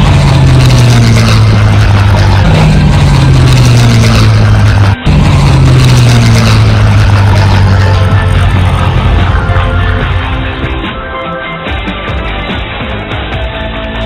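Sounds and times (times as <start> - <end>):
loud aircraft engine running: 0.0 - 14.0.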